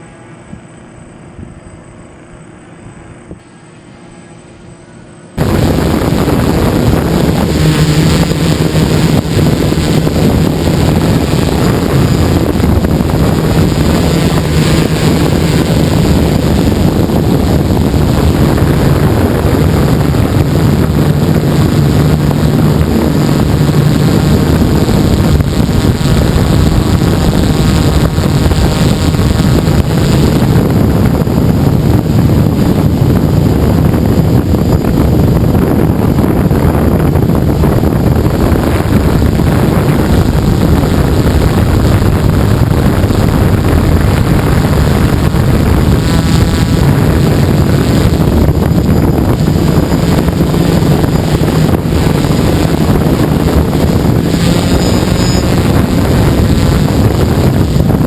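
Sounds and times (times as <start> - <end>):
wind on microphone: 5.3 - 58.0
drone motors buzzing: 5.4 - 58.0.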